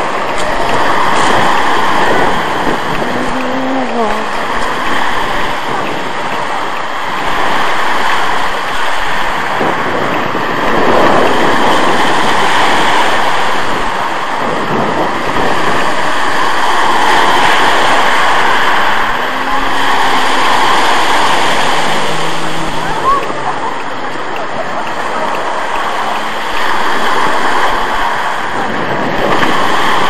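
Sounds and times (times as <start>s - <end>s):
waves breaking on pebble beach: 0.0s - 30.0s
wind on microphone: 0.0s - 30.0s.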